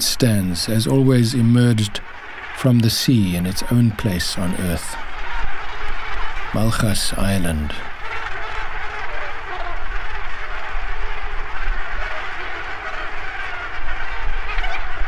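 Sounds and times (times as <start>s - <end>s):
seabird colony calling: 0.0s - 15.0s.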